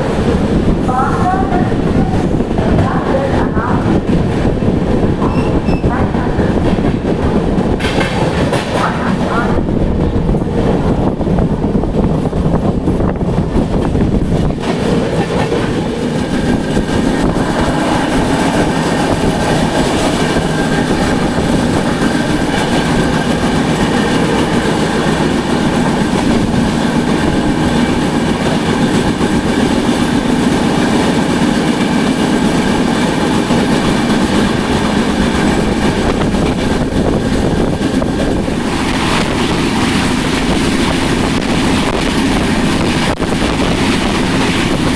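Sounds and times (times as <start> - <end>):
clickety-clack over rail joints: 0.0 - 44.9
train wheels rumbling on rails: 0.0 - 44.9.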